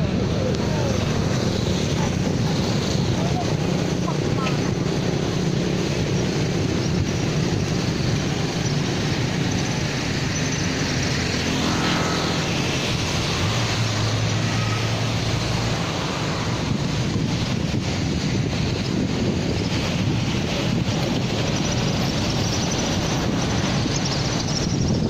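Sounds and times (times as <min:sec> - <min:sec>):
motorcycle running: 0:00.0 - 0:25.0
passing engine: 0:00.0 - 0:25.0
traffic noise: 0:00.0 - 0:25.0
wind on microphone: 0:00.0 - 0:25.0.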